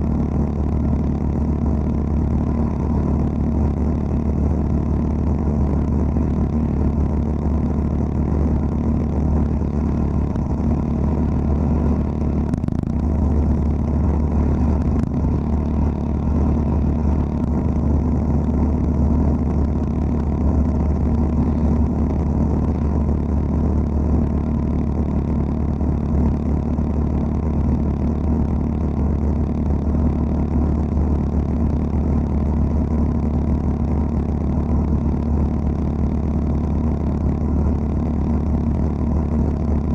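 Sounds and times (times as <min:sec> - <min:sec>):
deep motor hum: 0:00.0 - 0:39.9.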